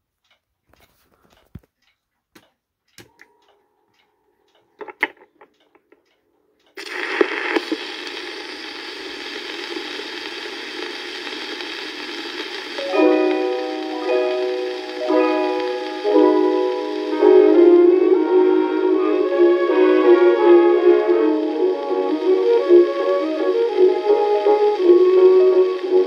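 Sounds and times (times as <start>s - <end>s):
record surface hiss and crackle: 3.9s - 26.0s.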